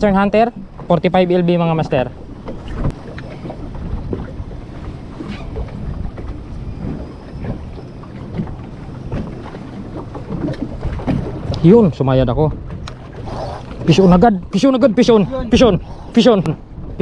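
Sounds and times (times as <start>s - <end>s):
waves slapping boat hull: 0.0s - 17.0s
wind buffeting microphone: 0.0s - 17.0s.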